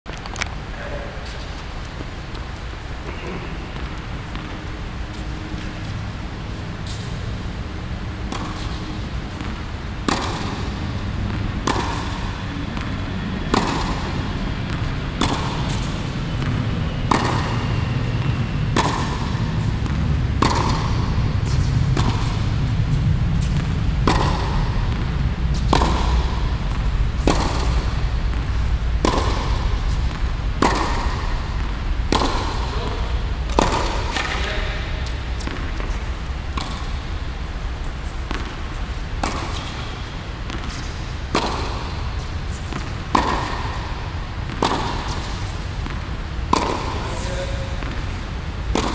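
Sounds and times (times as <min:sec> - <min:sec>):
low rumble: 0:00.2 - 0:44.6
tennis balls struck by rackets: 0:03.1 - 0:06.0, 0:08.2 - 0:22.7, 0:23.4 - 0:48.9.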